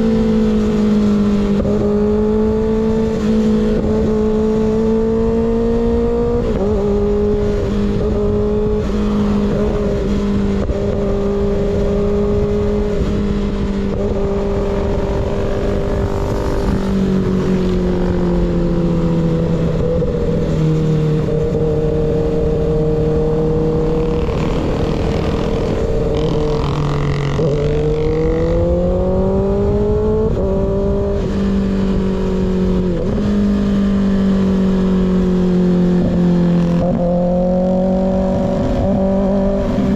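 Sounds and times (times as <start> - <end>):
wind rush: 0.0 - 33.6
motorcycle engine running: 0.0 - 39.9.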